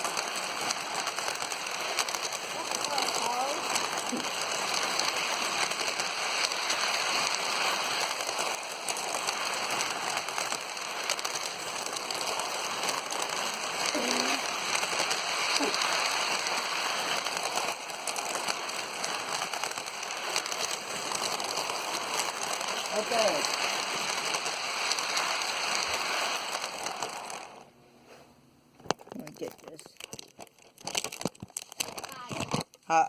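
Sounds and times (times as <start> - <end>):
toy train rattling on track: 0.0 - 27.7, 28.9 - 33.0.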